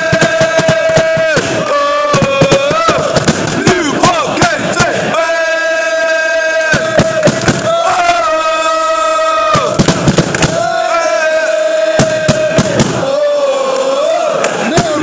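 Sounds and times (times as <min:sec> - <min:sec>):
football supporters chanting: 0:00.0 - 0:15.0.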